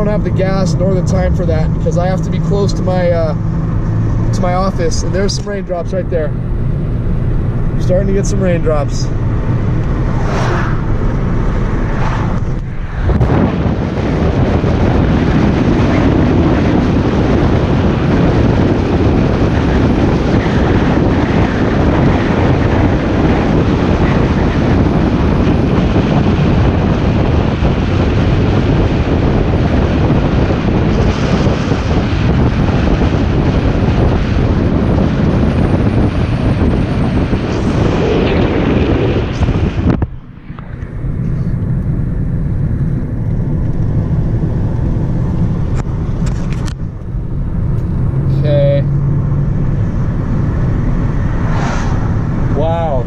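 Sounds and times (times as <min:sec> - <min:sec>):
car engine low rumble: 0:00.0 - 0:53.0
wind and road noise: 0:00.0 - 0:53.0.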